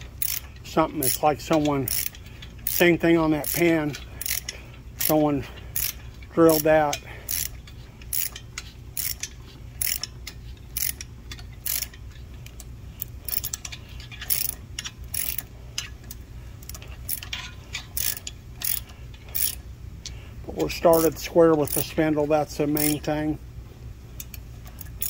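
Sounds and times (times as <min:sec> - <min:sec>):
ratchet clicking: 0:00.0 - 0:23.2, 0:24.2 - 0:25.0
steady low hum: 0:00.0 - 0:25.0.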